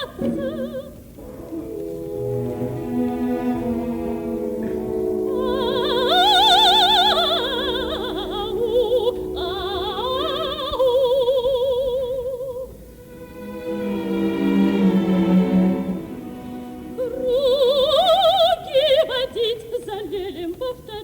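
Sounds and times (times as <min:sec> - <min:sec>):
soprano singing with vibrato: 0:00.0 - 0:03.2, 0:04.4 - 0:21.0
orchestra chords: 0:00.0 - 0:11.8, 0:12.7 - 0:18.8.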